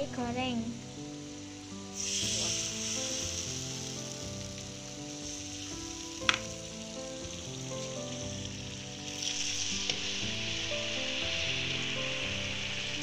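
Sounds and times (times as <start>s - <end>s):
background music with held notes: 0.0s - 13.0s
oil sizzling in a frying pan: 0.0s - 13.0s.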